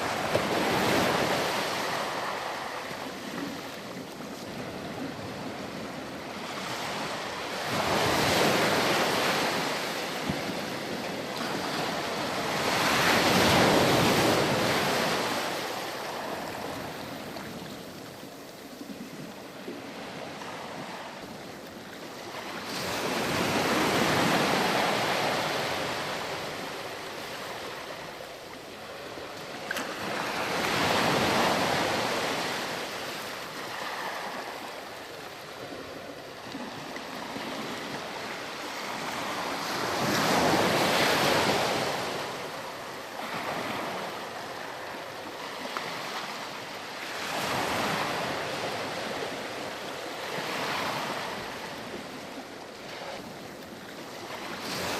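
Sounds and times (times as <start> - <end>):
waves breaking on beach: 0.0 - 54.9.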